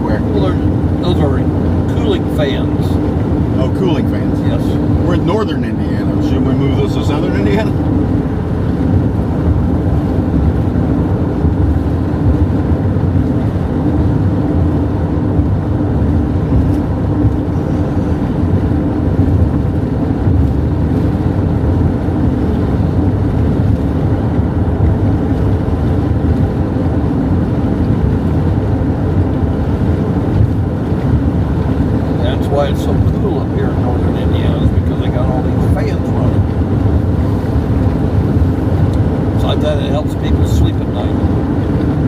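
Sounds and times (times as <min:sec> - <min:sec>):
car road and engine drone: 0:00.0 - 0:42.0.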